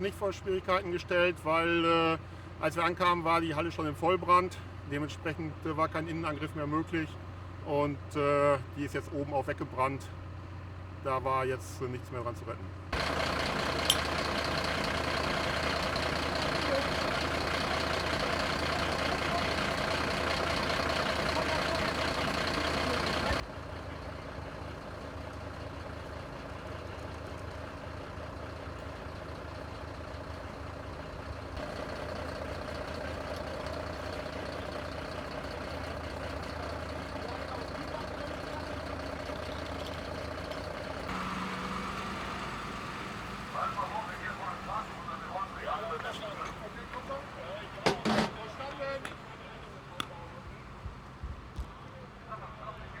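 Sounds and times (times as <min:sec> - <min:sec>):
fire engine pump hum: 0:00.0 - 0:53.0.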